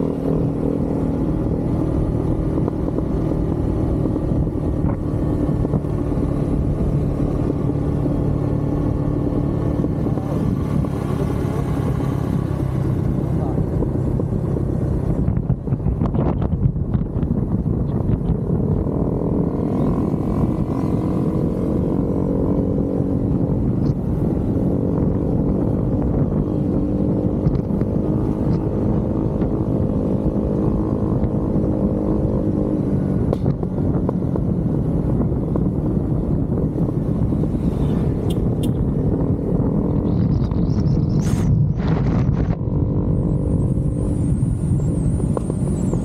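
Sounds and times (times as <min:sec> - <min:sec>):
low rumble: 0:00.0 - 0:46.0
motorcycle engine cruising: 0:00.0 - 0:46.0.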